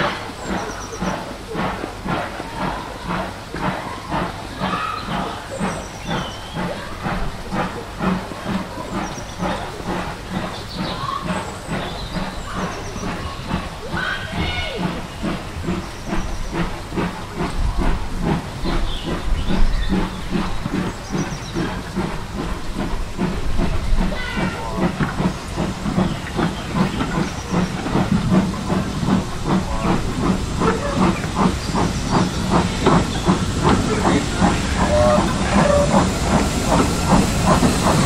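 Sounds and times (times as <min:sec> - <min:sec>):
steam hissing: 0:00.0 - 0:38.0
steam locomotive exhaust beats: 0:00.0 - 0:38.0.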